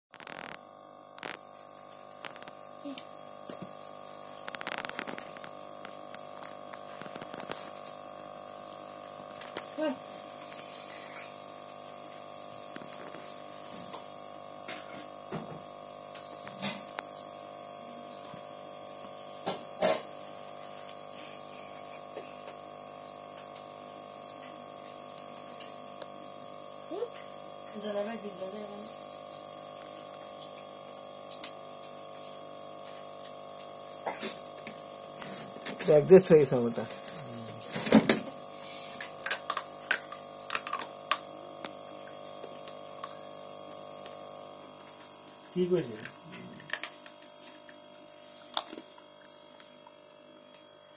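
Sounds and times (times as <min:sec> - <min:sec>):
aquarium filter pump humming: 0:00.1 - 0:50.9.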